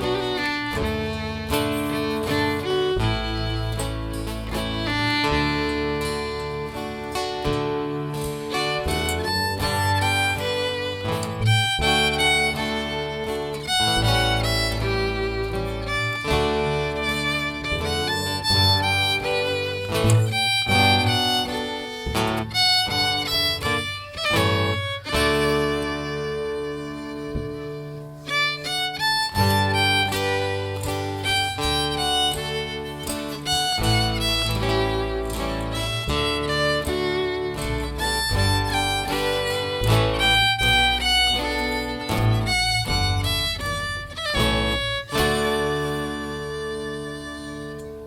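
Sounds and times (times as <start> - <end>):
fiddle melody: 0.0 - 48.0
low bass line: 0.0 - 48.0
strummed guitar: 0.0 - 48.0.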